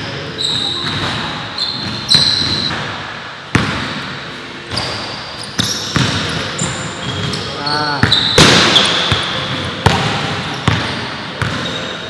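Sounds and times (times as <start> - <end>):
sneaker squeaks: 0.0 - 3.0, 4.7 - 12.0
basketball bouncing on gym floor: 0.5 - 4.1, 4.7 - 11.8.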